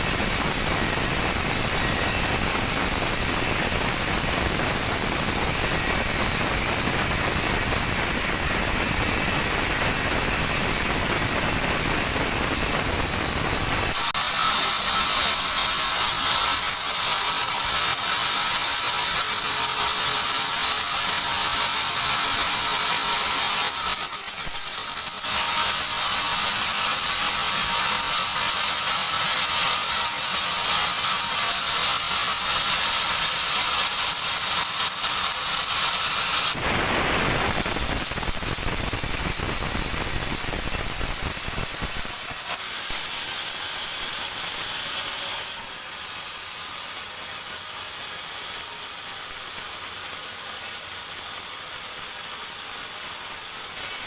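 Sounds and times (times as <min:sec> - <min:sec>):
bandsaw sawing wood: 0:00.0 - 0:54.0.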